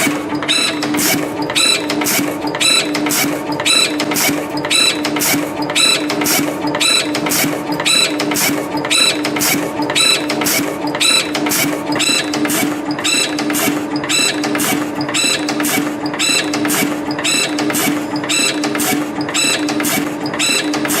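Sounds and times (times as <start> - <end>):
machine clicks and ringing: 0.0 - 21.0
spring machine humming: 0.0 - 21.0.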